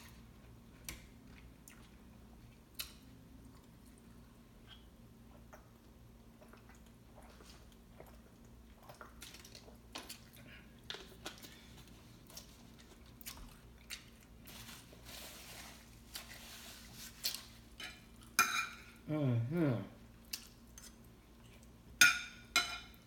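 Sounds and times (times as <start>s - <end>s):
soft chewing: 0.0s - 19.0s, 20.0s - 21.9s.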